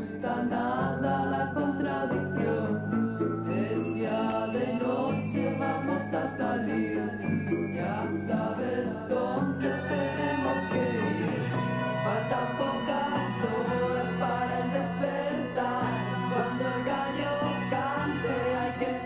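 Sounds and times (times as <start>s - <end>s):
chorus of voices: 0.0s - 19.0s
woman singing lead: 0.0s - 19.0s.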